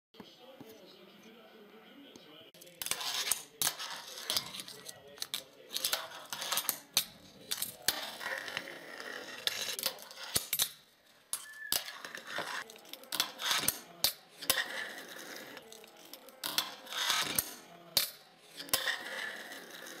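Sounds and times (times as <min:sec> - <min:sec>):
fingerboard wheels rolling: 0:02.8 - 0:10.7, 0:11.7 - 0:20.0.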